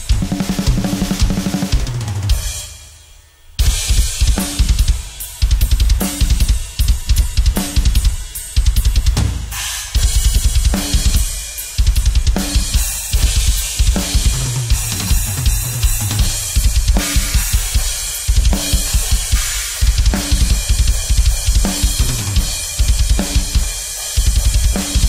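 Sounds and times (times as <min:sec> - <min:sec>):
rapid bass drum strokes: 0:00.0 - 0:03.0, 0:03.6 - 0:25.0.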